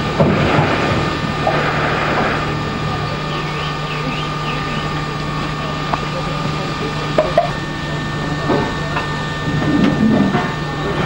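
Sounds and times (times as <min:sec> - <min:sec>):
steam locomotive low hum: 0:00.0 - 0:11.0.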